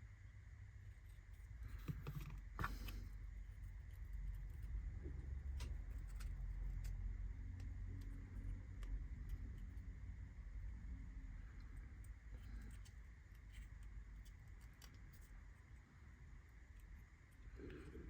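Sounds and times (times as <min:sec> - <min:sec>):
steady low rumble: 0:00.3 - 0:18.0.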